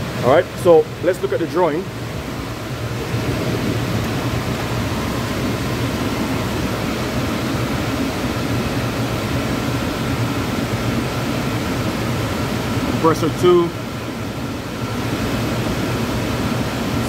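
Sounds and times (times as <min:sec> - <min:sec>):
air conditioner air rush and hum: 0:00.0 - 0:17.0.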